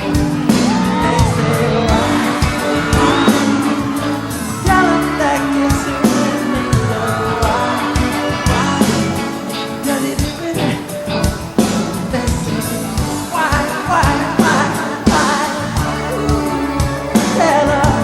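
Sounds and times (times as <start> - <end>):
man singing: 0.0 - 18.0
steady drum beats: 0.0 - 18.0
sustained keyboard chords: 0.0 - 18.0.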